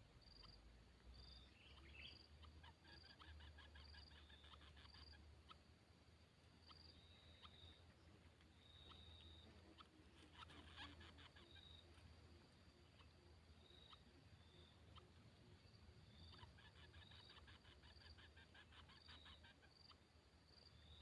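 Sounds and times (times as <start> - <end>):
small birds singing: 0.0 - 21.0.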